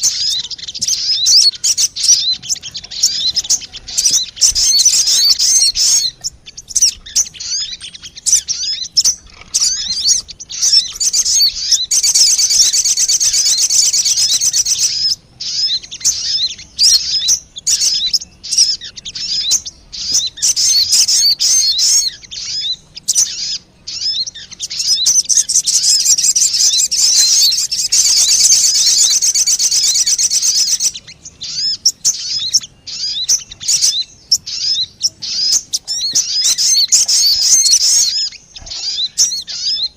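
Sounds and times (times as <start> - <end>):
bird lure call chirping: 0.0 - 39.9.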